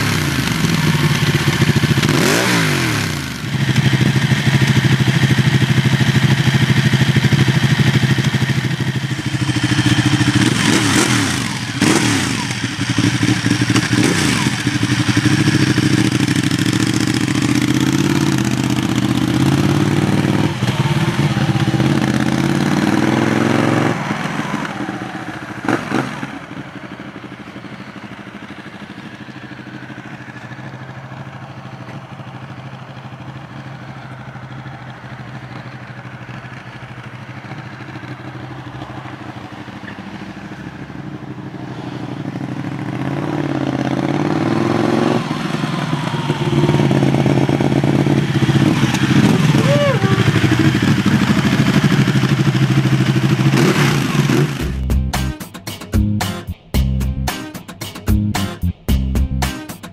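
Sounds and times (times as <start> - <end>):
motorcycle engine idling: 0.0 - 55.2
motorcycle engine revving: 0.0 - 55.3.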